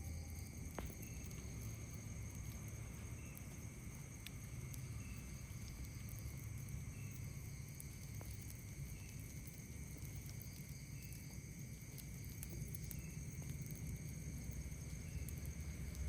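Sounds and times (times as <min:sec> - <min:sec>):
campfire crackles: 0:00.0 - 0:16.0
low steady rumble: 0:00.0 - 0:16.0
night insects droning: 0:00.0 - 0:16.0.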